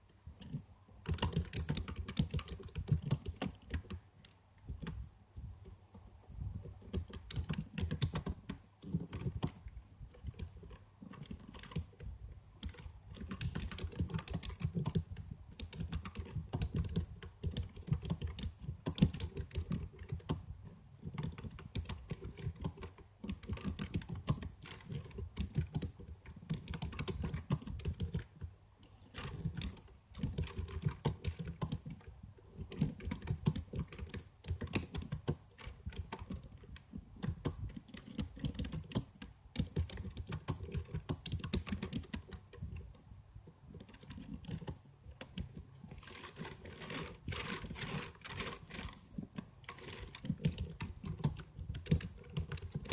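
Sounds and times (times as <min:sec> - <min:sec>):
computer keyboard typing: 0:00.4 - 0:04.0, 0:04.7 - 0:05.0, 0:06.6 - 0:28.5, 0:29.1 - 0:42.9, 0:43.7 - 0:52.9.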